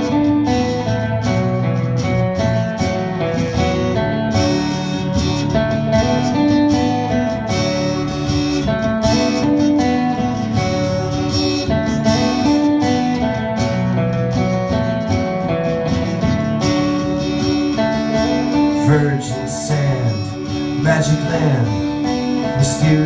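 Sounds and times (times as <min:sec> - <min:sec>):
acoustic band playing: 0:00.0 - 0:23.0
guitars strummed and picked: 0:00.0 - 0:23.0.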